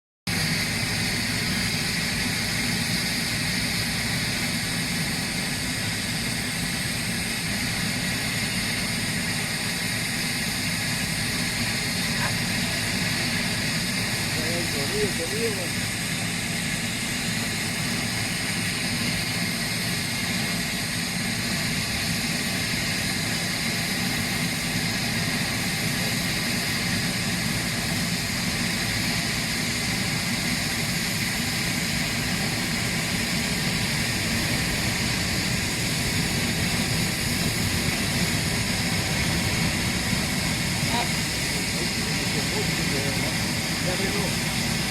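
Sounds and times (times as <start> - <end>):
jet engines running: 0.3 - 44.9.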